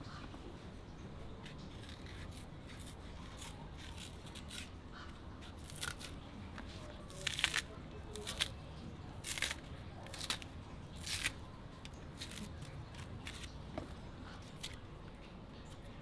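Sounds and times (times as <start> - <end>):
knife cutting plantain skin: 1.3 - 14.8
peel tearing: 1.3 - 14.9.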